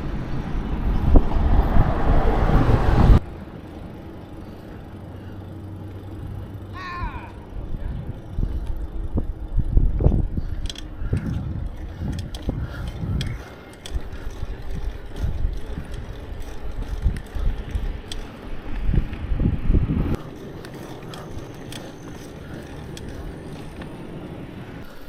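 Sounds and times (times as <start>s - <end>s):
wind buffeting microphone: 0.0s - 3.2s, 7.4s - 24.8s
bicycle freewheel clicking: 3.2s - 19.3s, 20.1s - 25.0s.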